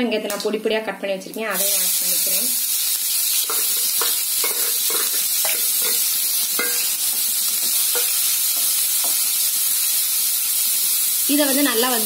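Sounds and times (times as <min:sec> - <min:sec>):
shallots sizzling in oil: 0:01.3 - 0:12.0.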